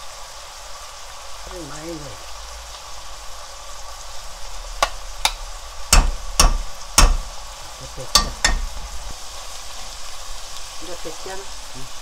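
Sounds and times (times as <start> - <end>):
low sizzle: 0.0 - 12.0.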